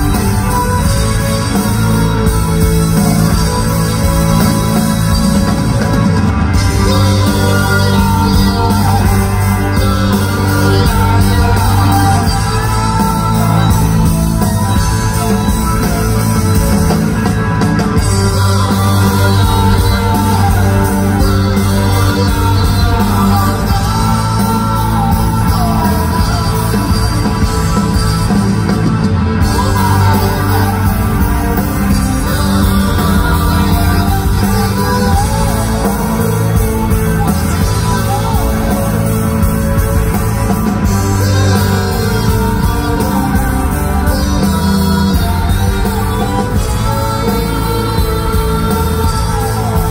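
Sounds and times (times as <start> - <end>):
bass guitar: 0.0 - 49.9
drums: 0.0 - 49.9
keyboards: 0.0 - 49.9.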